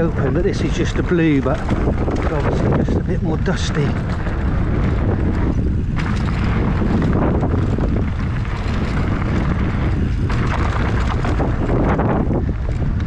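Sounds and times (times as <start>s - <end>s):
tyres rumbling on loose dirt: 0.0s - 13.0s
wind buffeting microphone: 0.0s - 13.0s.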